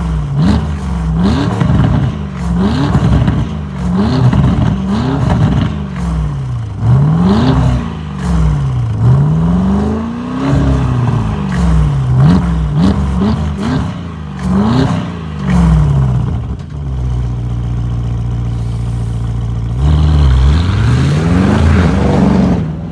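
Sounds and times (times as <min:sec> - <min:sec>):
car engine idling: 0:00.0 - 0:20.7
car engine revving: 0:00.0 - 0:22.9.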